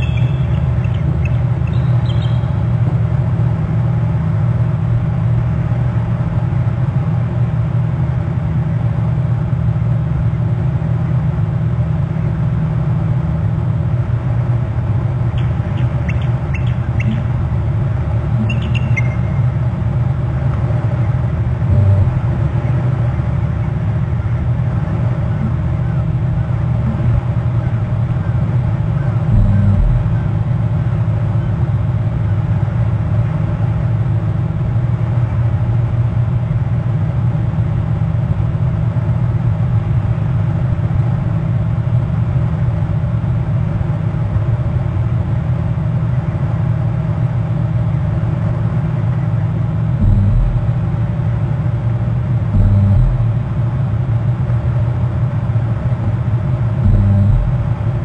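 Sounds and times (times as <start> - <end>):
low hum of held tones: 0.0 - 58.0.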